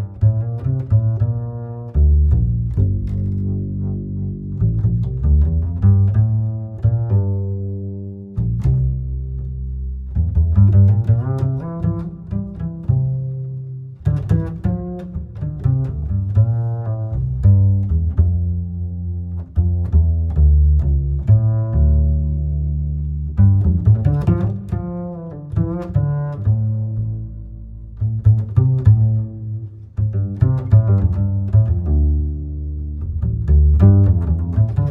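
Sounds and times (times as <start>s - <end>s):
strong bass line: 0.0s - 34.9s.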